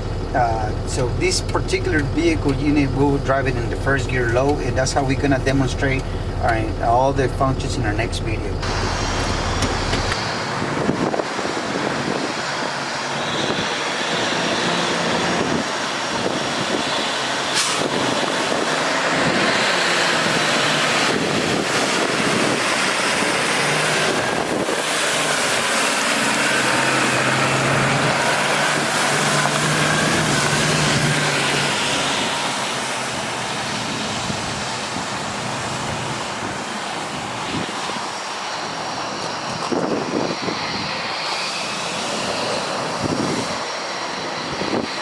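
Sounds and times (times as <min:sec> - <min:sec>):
diesel engine running: 0:00.0 - 0:45.0
loud steady rushing noise: 0:03.4 - 0:45.0.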